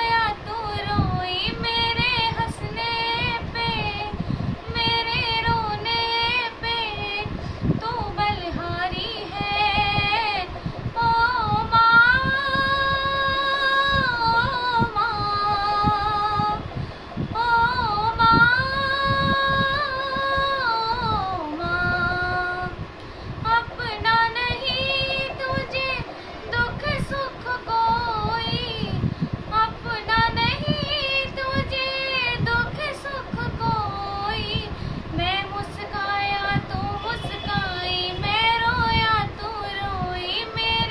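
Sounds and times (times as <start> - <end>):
girl singing: 0.0 - 40.9.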